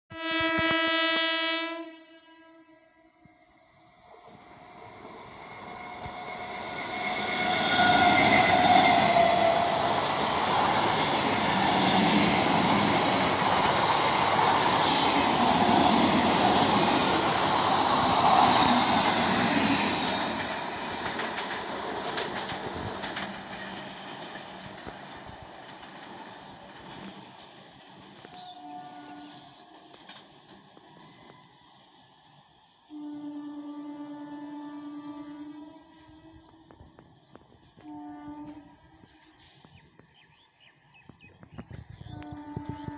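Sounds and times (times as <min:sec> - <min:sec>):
train passing at speed: 0:03.2 - 0:41.0.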